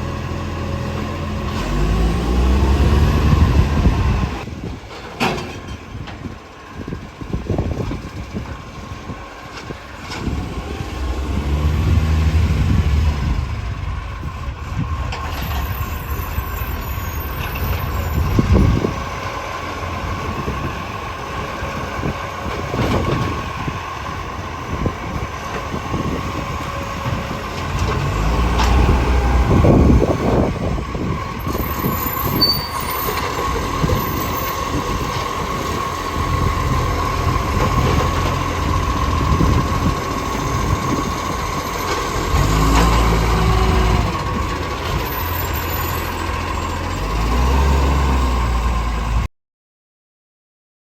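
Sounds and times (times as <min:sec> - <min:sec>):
garbage truck engine revving: 0:00.0 - 0:04.6, 0:09.9 - 0:49.2.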